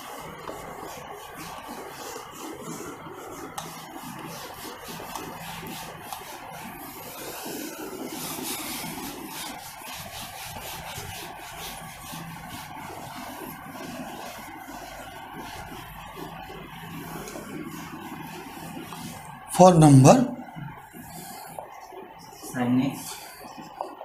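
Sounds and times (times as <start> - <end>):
cloth rubbing on whiteboard: 0.0 - 24.0.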